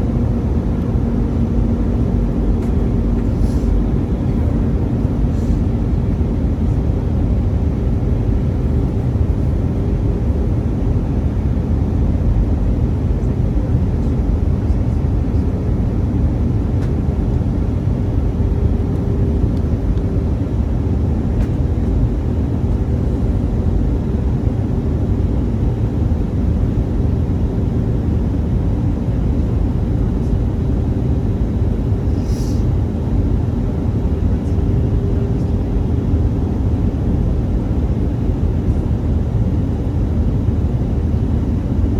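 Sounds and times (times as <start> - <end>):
aircraft cabin engine rumble: 0.0 - 41.9.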